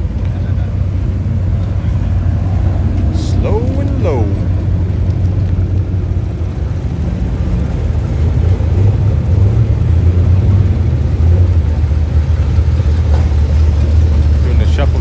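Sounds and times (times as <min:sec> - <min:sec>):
hot rod engine rumbling: 0:00.0 - 0:15.0.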